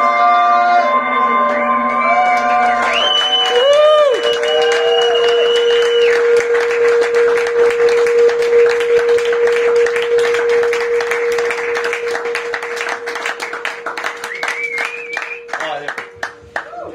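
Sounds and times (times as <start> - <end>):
steady tone: 0.0 - 16.5
audience applause: 1.4 - 16.9.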